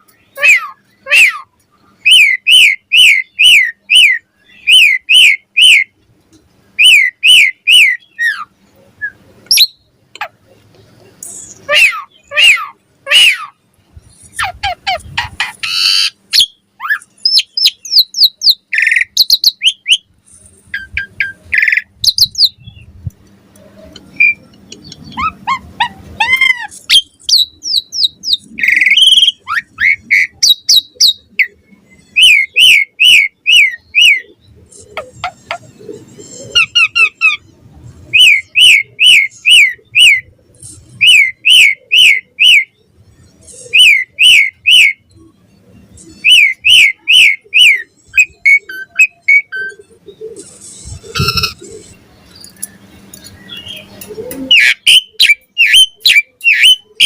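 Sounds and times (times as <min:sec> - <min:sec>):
starling singing: 0:00.1 - 0:06.0, 0:06.8 - 0:10.4, 0:11.1 - 0:23.0, 0:23.7 - 0:57.0.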